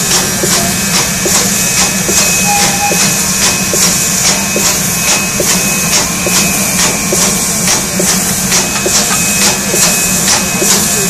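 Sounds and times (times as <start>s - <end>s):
rhythmic locomotive chuffing: 0.0s - 11.0s
steam locomotive hissing: 0.0s - 11.0s.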